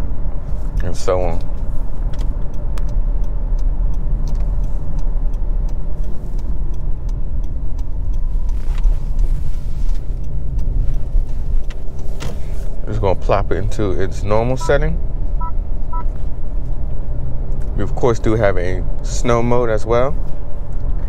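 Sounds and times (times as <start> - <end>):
car interior road rumble: 0.0 - 21.0
light regular ticking: 0.0 - 21.0.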